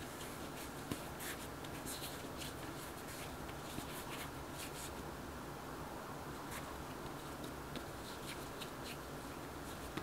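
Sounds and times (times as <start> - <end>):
hands rubbing dough: 0.0 - 5.0, 6.4 - 10.0
steady low hiss: 0.0 - 10.0.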